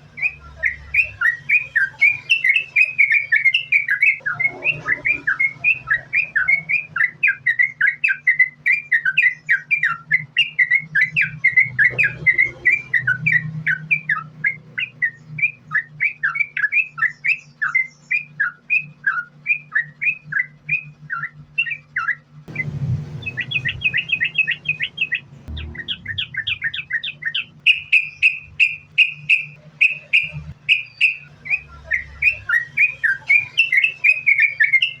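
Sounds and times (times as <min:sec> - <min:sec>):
bird singing rapid chirps: 0:00.0 - 0:35.0
low steady hum: 0:00.0 - 0:35.0.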